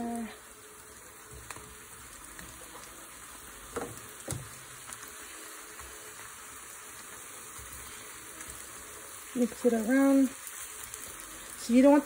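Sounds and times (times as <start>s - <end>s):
tortillas sizzling in hot oil: 0.0s - 12.0s.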